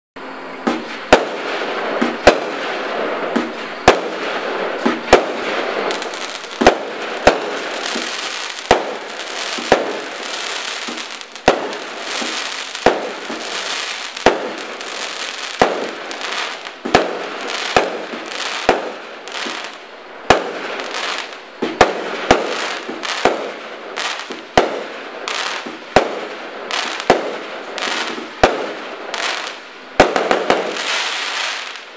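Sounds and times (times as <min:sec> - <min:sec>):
crackling hiss of bursting stars: 0:00.4 - 0:31.9
firework bangs: 0:00.6 - 0:31.9.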